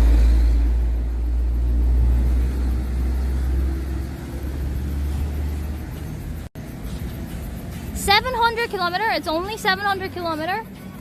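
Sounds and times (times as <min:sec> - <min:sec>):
vehicle rumbling by: 0:00.0 - 0:11.0.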